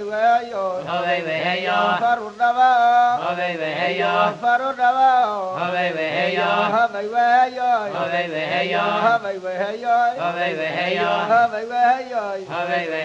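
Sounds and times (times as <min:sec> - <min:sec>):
solo voice chanting: 0:00.0 - 0:13.0.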